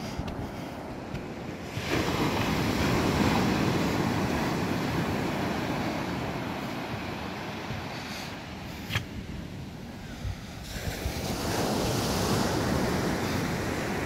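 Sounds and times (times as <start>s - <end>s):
waves washing: 0.0s - 14.0s.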